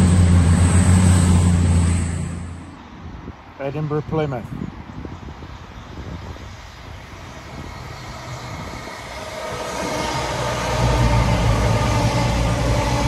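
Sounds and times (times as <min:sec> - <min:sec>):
diesel train passing: 0:00.0 - 0:13.0.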